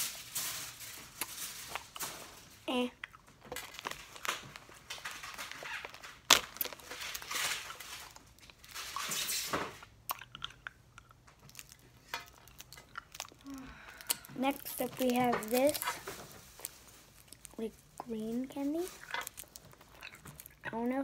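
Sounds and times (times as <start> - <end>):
plastic wrappers crinkling: 0.0 - 21.0
hard candy being chewed: 1.0 - 2.1, 2.7 - 21.0.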